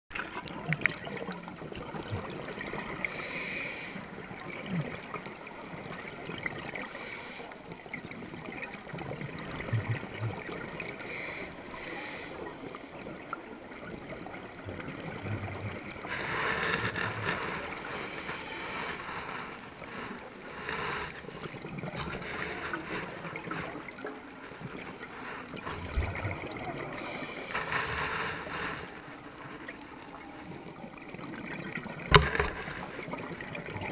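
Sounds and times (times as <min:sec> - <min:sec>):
faint crackle: 0:00.1 - 0:33.9.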